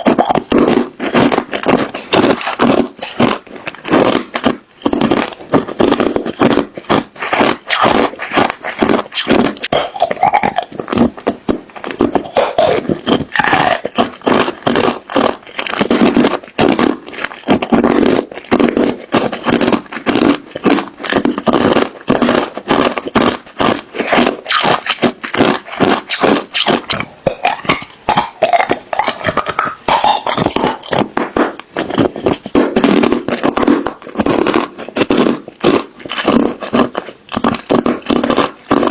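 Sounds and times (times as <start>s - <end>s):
ice cubes being crunched: 0.0s - 38.9s.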